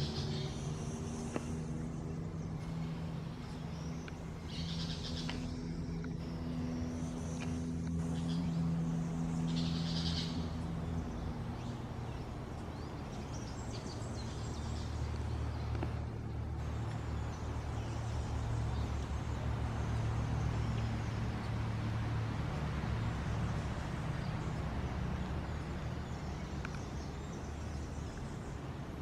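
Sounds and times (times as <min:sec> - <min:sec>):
traffic hum: 0:00.0 - 0:29.0.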